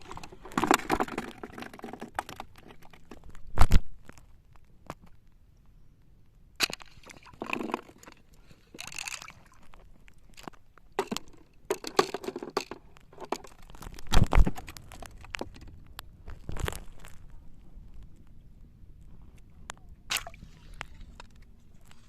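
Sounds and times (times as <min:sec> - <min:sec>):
crunches and scuffs in shallow water: 0:00.0 - 0:22.0.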